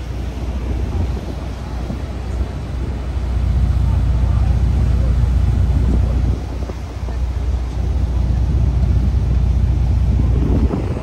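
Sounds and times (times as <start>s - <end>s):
boat engine running: 0.0s - 11.0s
churning boat wake: 0.0s - 11.0s
wind rumbling on microphone: 0.0s - 11.0s.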